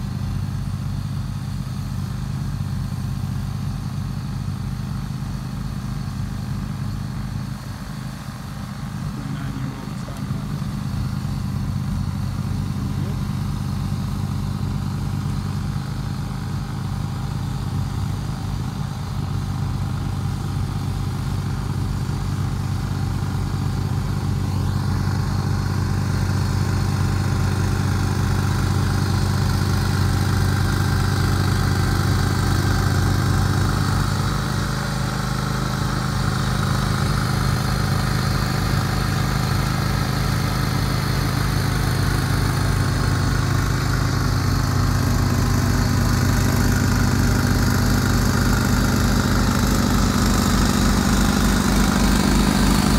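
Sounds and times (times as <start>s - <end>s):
garden tractor engine running: 0.0s - 52.9s.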